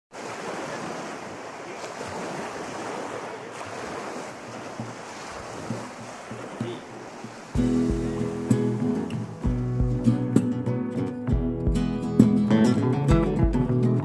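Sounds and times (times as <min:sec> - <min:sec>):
water lapping against pier: 0:00.1 - 0:12.3.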